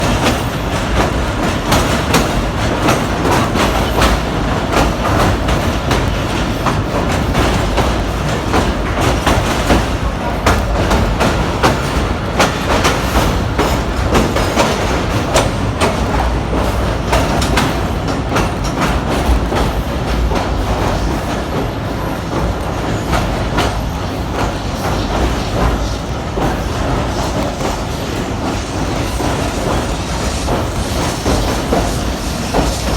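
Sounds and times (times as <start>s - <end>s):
train rumbling on rails: 0.0s - 32.9s.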